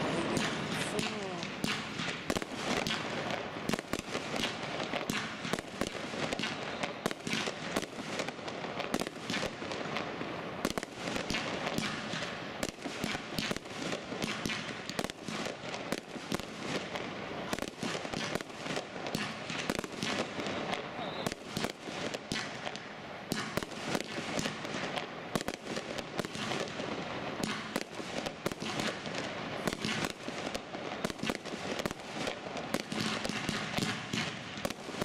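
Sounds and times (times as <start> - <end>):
fireworks bangs and pops: 0.0 - 35.0.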